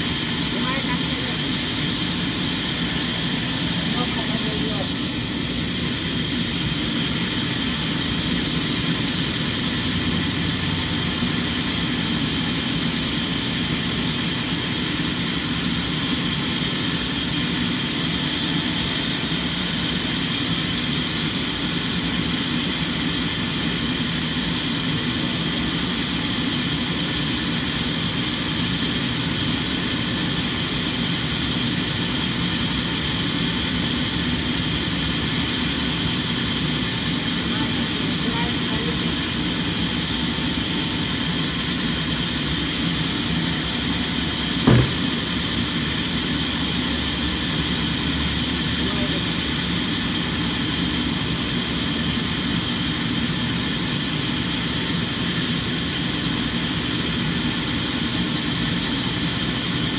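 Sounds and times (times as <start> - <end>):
sawmill machinery running: 0.0 - 26.6, 27.8 - 50.6.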